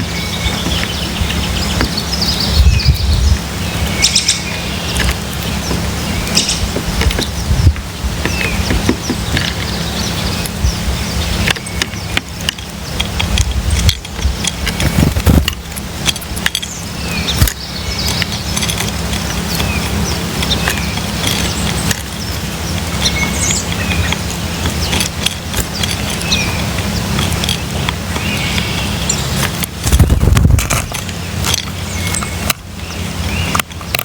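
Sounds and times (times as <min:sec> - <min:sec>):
sharp clicks and knocks: 0:00.0 - 0:02.5, 0:03.8 - 0:10.7, 0:11.4 - 0:32.7, 0:33.4 - 0:34.0
birds chirping: 0:00.0 - 0:34.0
steady low rumble: 0:00.0 - 0:34.0.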